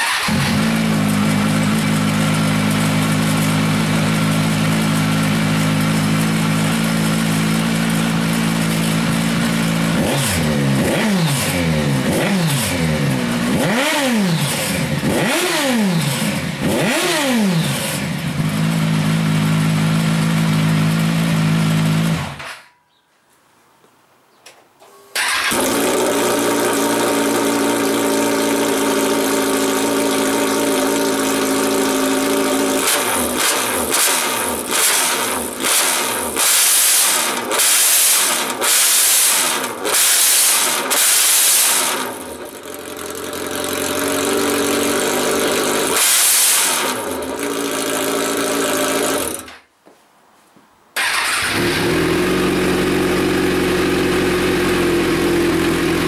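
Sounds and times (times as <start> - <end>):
motorcycle engine revving: 0.0 - 22.7, 25.2 - 49.6, 51.0 - 56.0.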